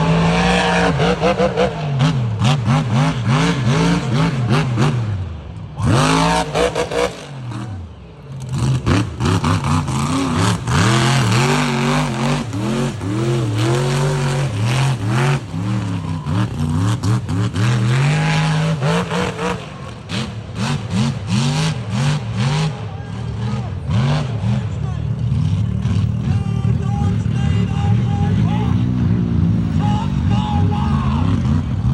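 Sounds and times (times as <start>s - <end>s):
truck engine revving hard: 0.0s - 31.9s.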